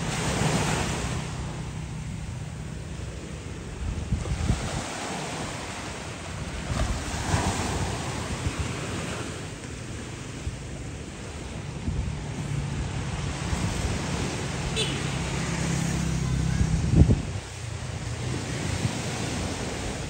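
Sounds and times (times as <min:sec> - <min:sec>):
waves washing onto beach: 0:00.0 - 0:20.0
wind buffeting microphone: 0:00.0 - 0:20.0.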